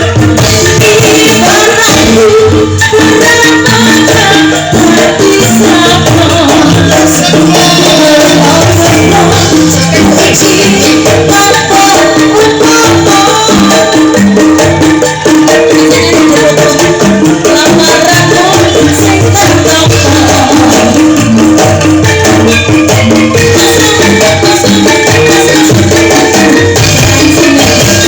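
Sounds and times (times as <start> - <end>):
amplified live music: 0.0 - 28.0.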